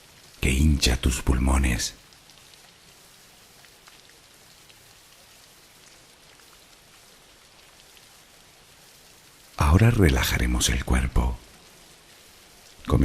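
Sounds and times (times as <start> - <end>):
soft steady rain: 0.0 - 13.0.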